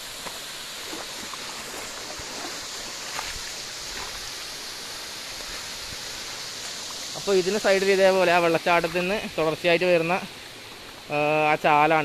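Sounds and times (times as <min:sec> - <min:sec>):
stream flowing over rocks: 0:00.0 - 0:12.0
waterfall rushing: 0:00.0 - 0:12.0.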